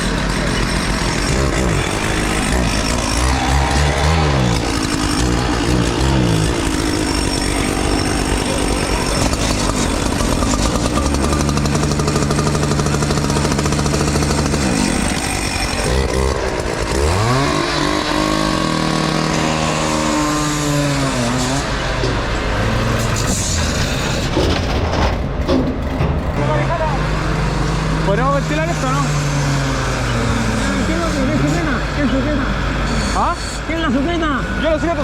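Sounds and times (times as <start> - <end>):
engine revving: 0.0 - 25.2, 26.2 - 35.0.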